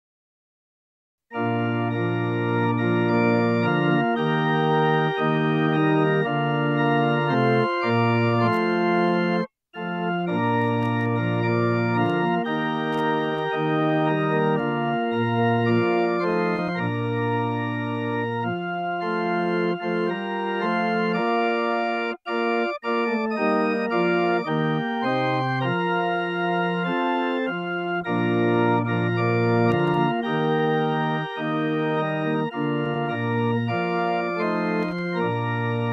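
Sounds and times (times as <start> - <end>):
organ chords: 1.3 - 35.9.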